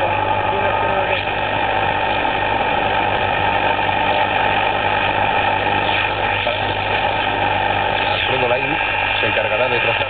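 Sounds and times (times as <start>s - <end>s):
low hum: 0.0s - 9.3s
radio static hiss: 0.0s - 10.0s.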